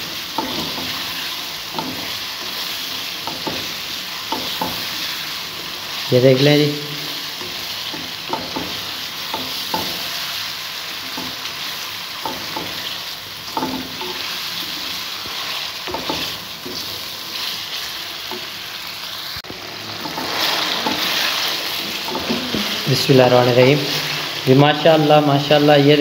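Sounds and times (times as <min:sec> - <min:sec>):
spatula scraping and knocking pan: 0:00.0 - 0:05.4, 0:07.3 - 0:18.7, 0:19.9 - 0:24.2
food sizzling in a pan: 0:00.0 - 0:26.0.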